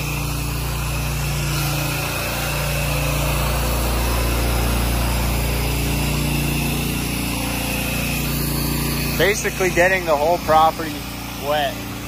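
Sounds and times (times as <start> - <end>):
pressure-washer engine running: 0.0 - 12.0
water spraying onto siding: 0.0 - 12.0.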